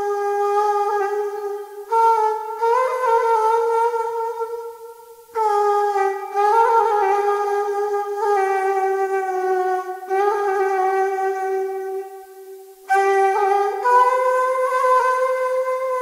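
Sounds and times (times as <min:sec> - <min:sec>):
solo woodwind playing long notes: 0:00.0 - 0:16.0.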